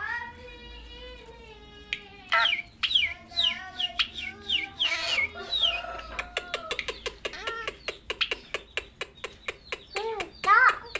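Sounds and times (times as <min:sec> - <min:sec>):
child making clicking chips: 0:00.4 - 0:10.9.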